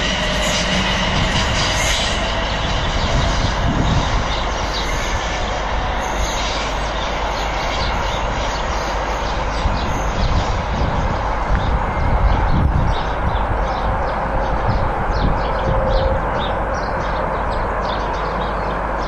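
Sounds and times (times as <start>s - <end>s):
electric train running on track: 0.0s - 19.0s.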